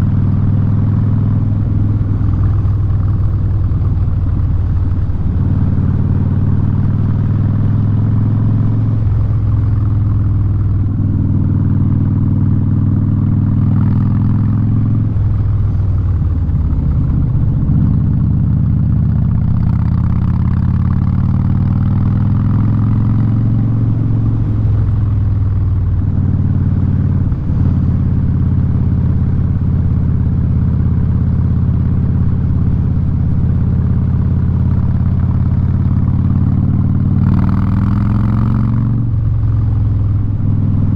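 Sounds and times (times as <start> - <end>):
motorcycle engine running loud: 0.0 - 40.9.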